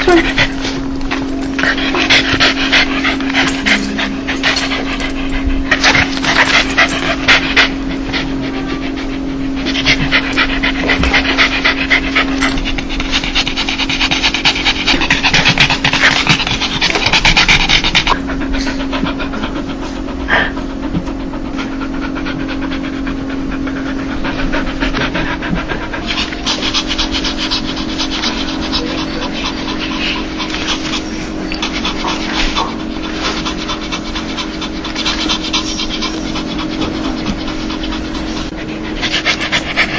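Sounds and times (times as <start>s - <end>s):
dog panting rapidly: 0.0s - 39.9s
steady low hum: 0.0s - 39.9s.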